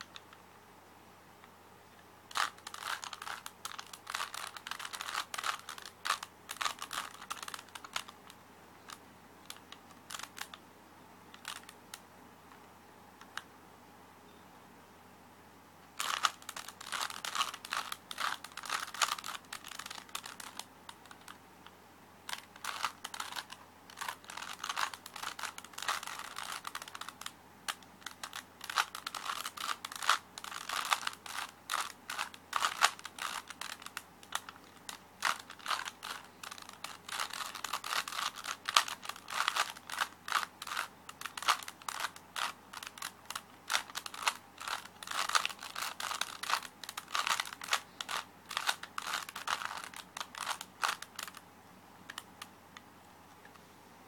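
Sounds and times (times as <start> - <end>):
puzzle cube plastic clicks: 2.3 - 10.6, 11.3 - 12.0, 16.0 - 21.4, 22.2 - 51.4, 52.1 - 53.5.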